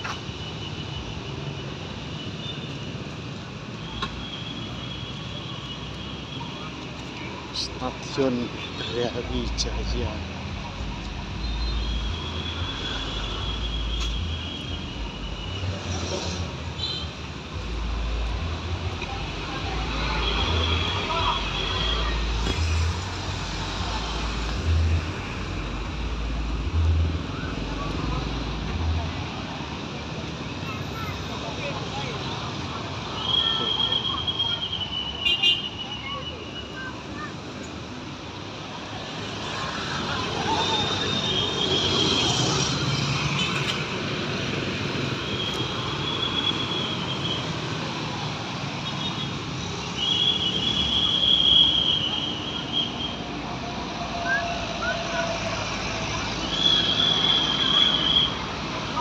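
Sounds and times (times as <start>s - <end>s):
street din: 0.0s - 59.0s.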